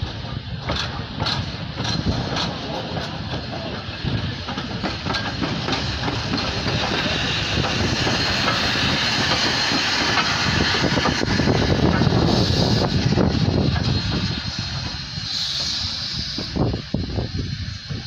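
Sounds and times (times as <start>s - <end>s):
steam hissing: 0.0s - 18.0s
train clattering on rails: 0.0s - 18.0s.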